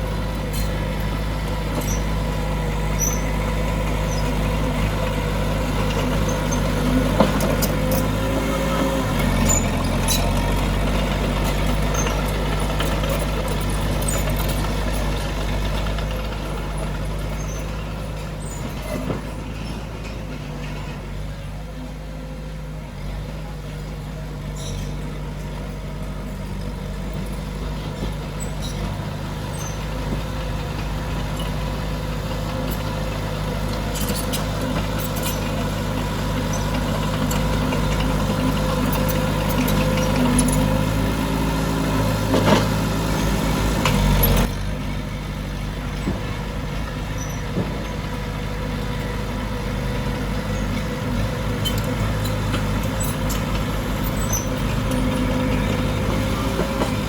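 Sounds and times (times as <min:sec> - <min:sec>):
heavy diesel engine running: 0:00.0 - 0:57.0
clanks and rattles: 0:00.4 - 0:21.4, 0:23.8 - 0:44.7, 0:45.9 - 0:57.0.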